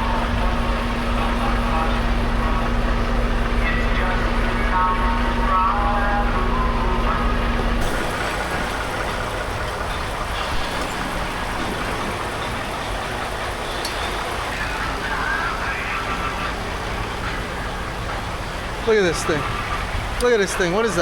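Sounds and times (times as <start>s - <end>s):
truck engine and road noise: 0.0s - 21.0s.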